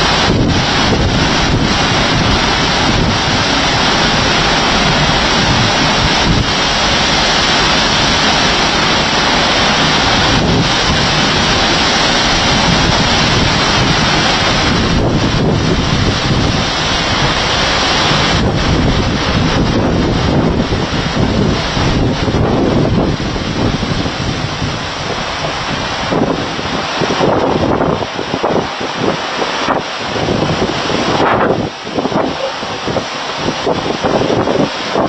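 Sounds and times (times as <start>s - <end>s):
heavy rain: 0.0s - 35.0s
wind buffeting microphone: 0.0s - 35.0s.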